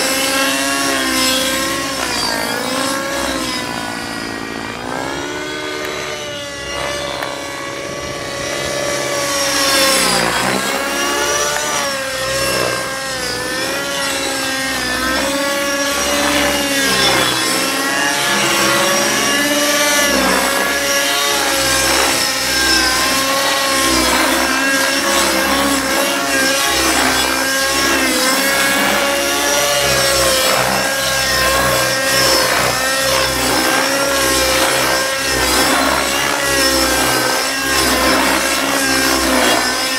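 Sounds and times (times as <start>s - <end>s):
rc helicopter engine and rotor: 0.0s - 39.9s.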